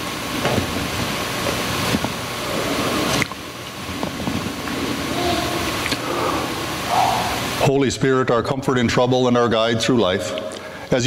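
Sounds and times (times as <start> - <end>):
faint constant hum: 0.0 - 11.0
steady hiss: 0.0 - 11.0.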